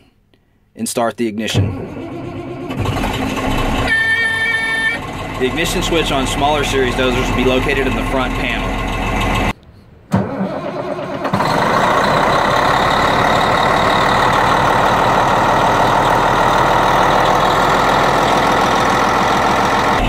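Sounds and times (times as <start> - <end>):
diesel engine starting: 1.4 - 20.0.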